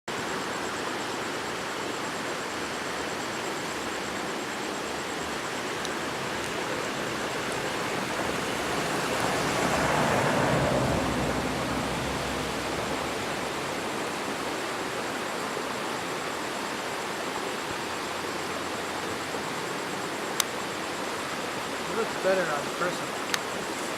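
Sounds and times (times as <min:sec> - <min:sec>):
waterfall rushing: 0:00.2 - 0:23.9.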